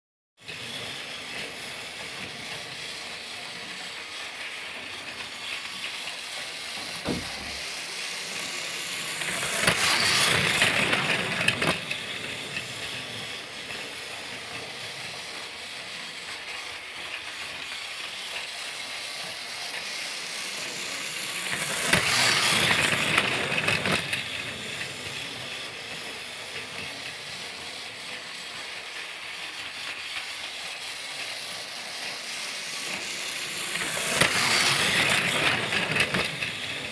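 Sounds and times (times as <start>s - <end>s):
toy train whirring rattle: 0.4s - 36.9s.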